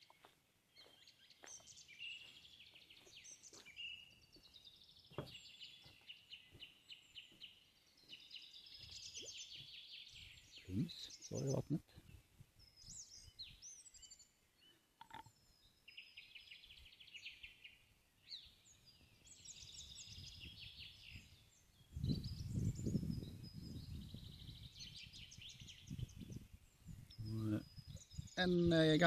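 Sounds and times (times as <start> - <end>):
songbirds trilling and chirping: 0.0 - 29.0.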